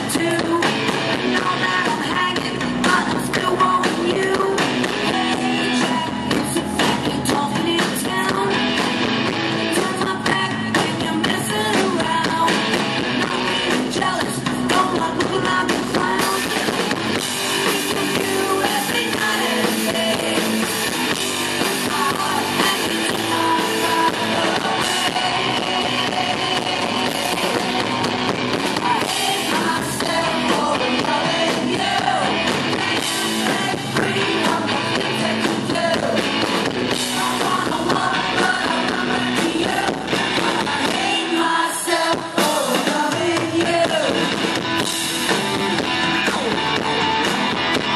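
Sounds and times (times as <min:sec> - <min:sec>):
woman singing lead: 0:00.0 - 0:44.4
drum kit: 0:00.0 - 0:47.9
electric guitars: 0:00.0 - 0:47.9.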